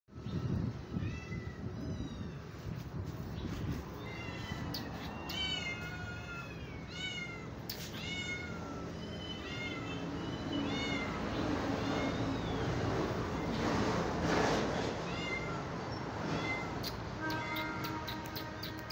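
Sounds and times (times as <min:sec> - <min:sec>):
cats meowing: 0:00.2 - 0:13.6, 0:15.0 - 0:18.9.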